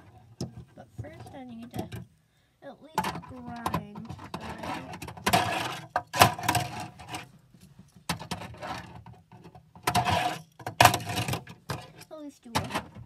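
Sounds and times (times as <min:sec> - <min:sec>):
small wheels rolling on plastic ramp: 0:00.0 - 0:02.0, 0:03.0 - 0:13.0.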